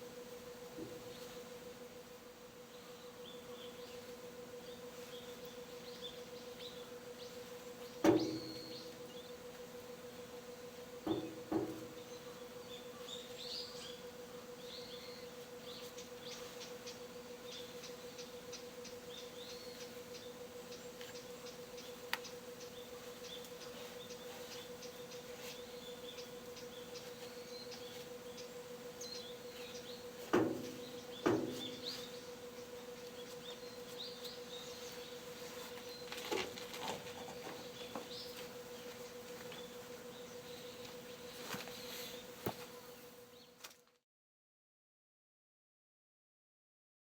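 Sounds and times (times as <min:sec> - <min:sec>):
steady low hum: 0:00.0 - 0:43.6
small birds chirping: 0:02.7 - 0:09.6, 0:11.1 - 0:43.6.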